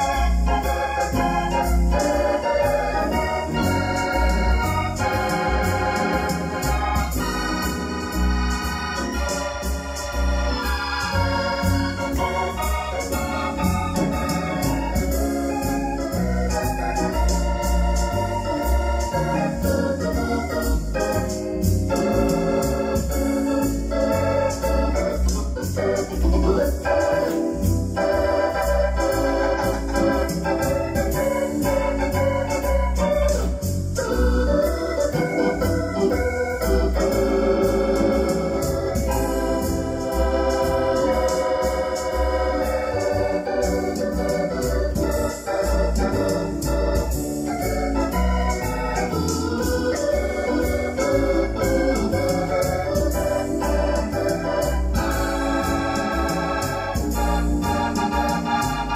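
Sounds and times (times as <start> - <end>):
electronic keyboard organ sound: 0.0 - 58.9.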